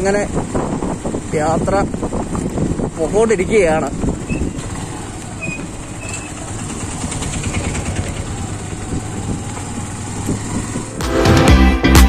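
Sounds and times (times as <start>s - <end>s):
rough road noise: 0.0s - 11.5s
wind: 0.0s - 11.5s
motorcycle engine running: 0.0s - 11.6s.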